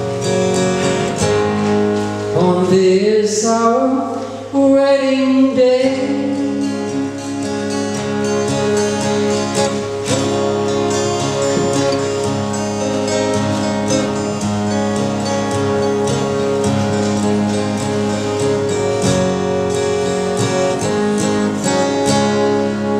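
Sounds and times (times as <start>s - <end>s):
acoustic guitar strumming chords: 0.0s - 22.9s.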